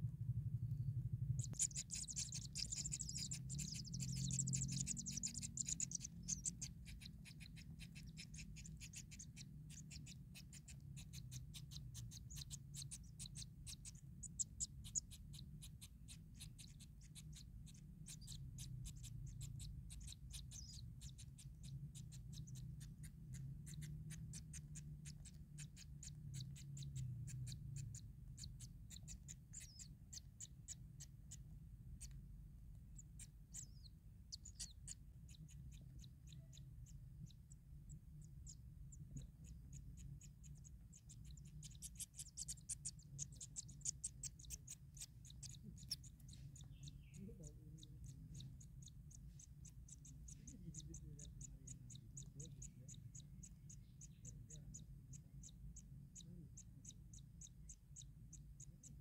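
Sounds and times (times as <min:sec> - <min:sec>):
low steady hum: 0:00.0 - 0:59.0
nestlings begging calls: 0:01.3 - 0:32.2, 0:32.9 - 0:59.0.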